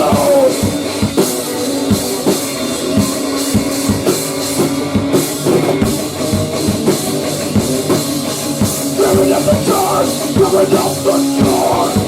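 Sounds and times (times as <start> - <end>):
drum kit: 0.0 - 12.0
sustained electric guitar: 0.0 - 12.0.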